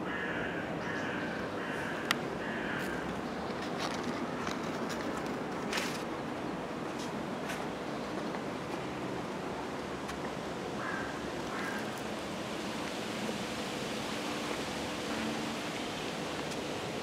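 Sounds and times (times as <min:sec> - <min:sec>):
wind-like hiss: 0:00.0 - 0:17.0.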